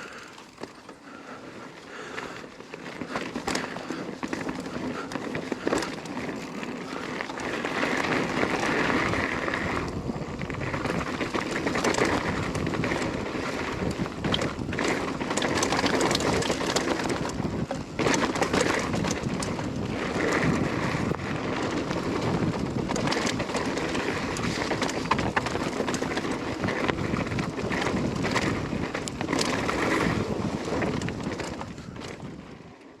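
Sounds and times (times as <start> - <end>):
bike rattles and clicks: 0.0 - 33.0
tyre and wind noise: 0.0 - 33.0.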